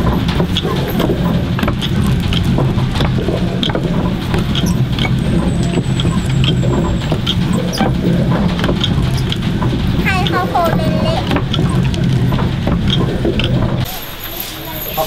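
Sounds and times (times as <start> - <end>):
stone mill grinding: 0.0 - 15.0.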